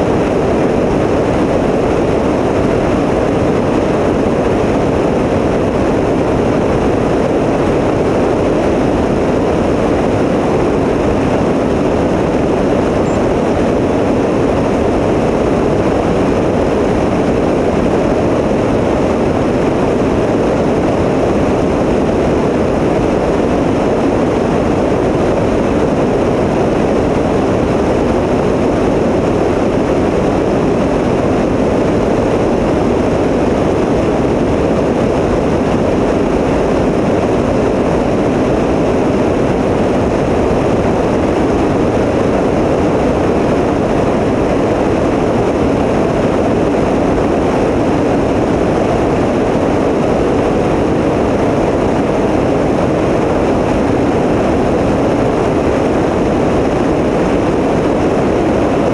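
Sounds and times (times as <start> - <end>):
light aircraft engine droning: 0.0 - 58.9.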